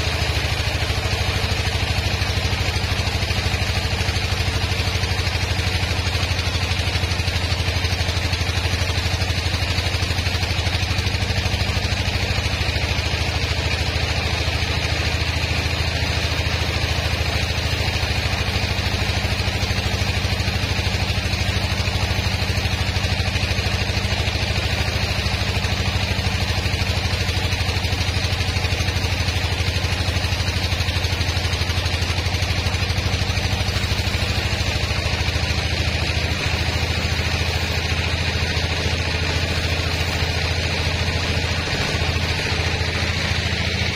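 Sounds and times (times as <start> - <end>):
sawmill motor humming: 0.0 - 43.9.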